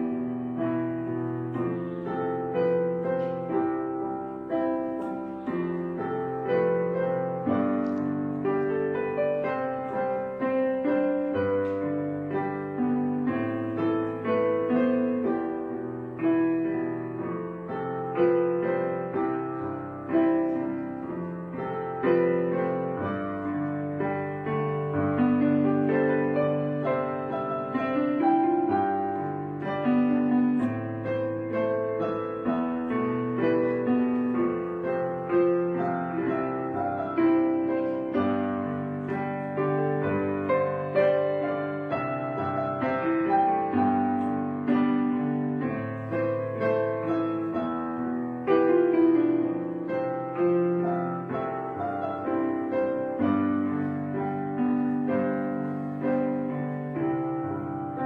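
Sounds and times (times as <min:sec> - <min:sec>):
slow solo piano: 0:00.0 - 0:58.0.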